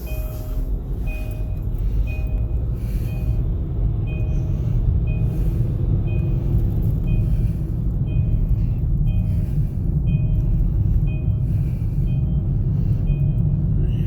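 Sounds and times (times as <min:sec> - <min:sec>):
car driving rumble: 0:00.0 - 0:14.0
seatbelt warning chime beeping: 0:00.0 - 0:14.0.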